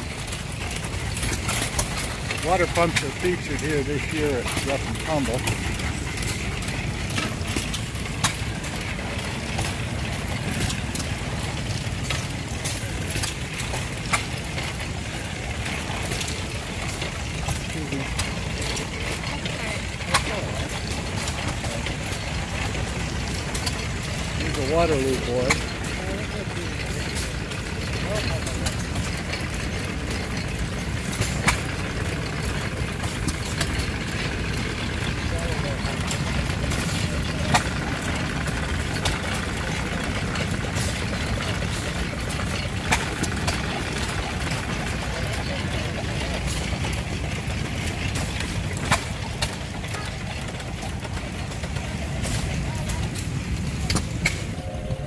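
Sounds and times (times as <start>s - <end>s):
stationary gas engines running: 0.0s - 55.0s.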